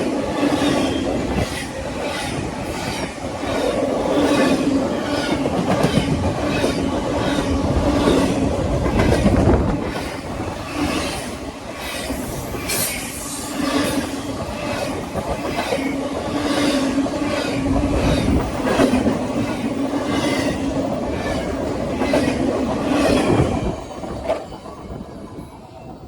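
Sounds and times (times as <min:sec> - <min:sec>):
train wheels clacking over rail joints: 0:00.0 - 0:23.6
train rolling hum: 0:00.0 - 0:26.0.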